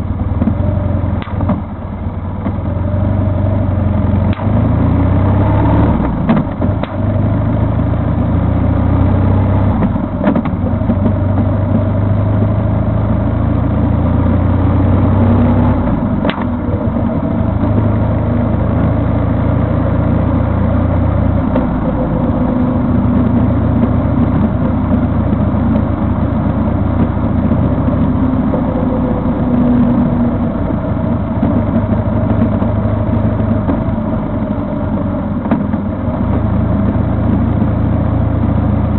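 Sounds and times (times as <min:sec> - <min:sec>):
road noise: 0:00.0 - 0:38.9
vehicle engine running: 0:00.0 - 0:38.9.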